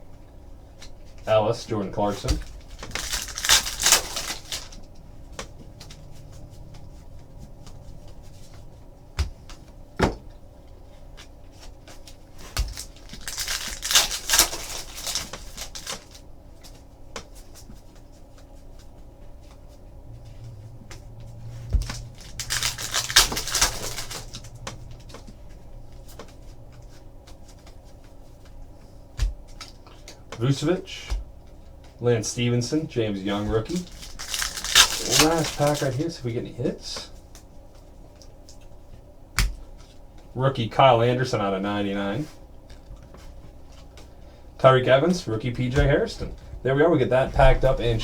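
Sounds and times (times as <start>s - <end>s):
card packs rustling and crinkling: 0.1s - 48.0s.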